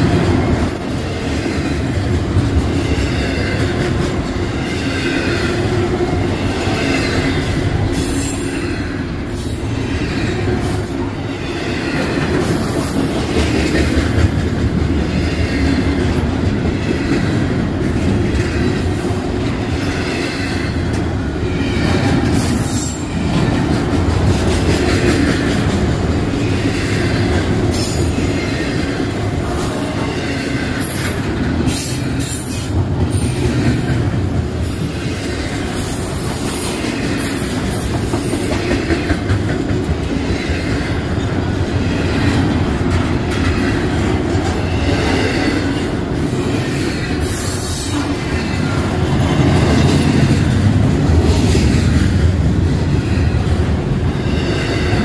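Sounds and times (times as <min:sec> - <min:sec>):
wheels clickety-clack: 0:00.0 - 0:08.4, 0:11.9 - 0:21.2, 0:21.8 - 0:54.0
train wheels rumbling on rails: 0:00.0 - 0:55.0.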